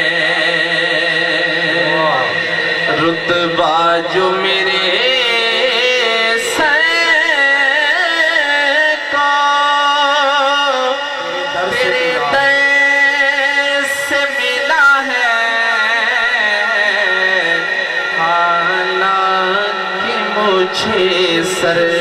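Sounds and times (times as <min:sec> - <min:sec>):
man singing melodic passage: 0:00.0 - 0:22.0
steady held drone: 0:00.0 - 0:22.0.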